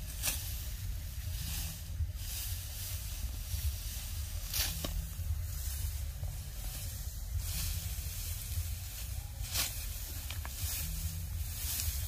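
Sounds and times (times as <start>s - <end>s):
sickle swishing through straw: 0.0s - 12.0s
steady low rumble: 0.0s - 12.0s.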